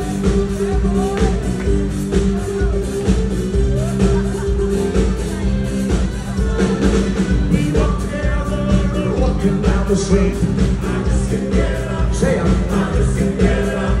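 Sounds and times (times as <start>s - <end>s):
drums keeping a steady beat: 0.0s - 14.0s
live rock band playing: 0.0s - 14.0s
person singing: 0.0s - 14.0s.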